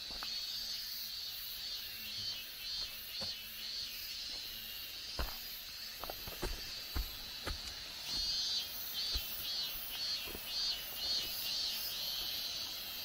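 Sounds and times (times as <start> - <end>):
footsteps on trail: 0.0 - 0.8, 2.1 - 12.3
high-pitched insect chorus: 0.0 - 13.0.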